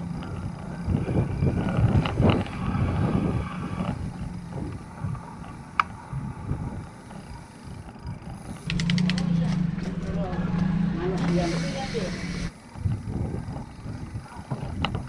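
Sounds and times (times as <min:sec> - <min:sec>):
bicycle frame rattling: 0:00.0 - 0:15.0
bicycle tyres rumbling on concrete: 0:00.0 - 0:15.0
wind on microphone: 0:00.3 - 0:15.0.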